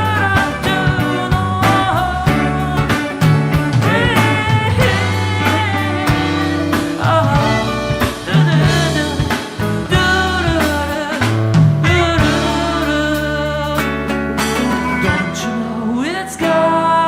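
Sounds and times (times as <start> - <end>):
held bass notes: 0.0 - 16.9
person singing: 0.0 - 17.0.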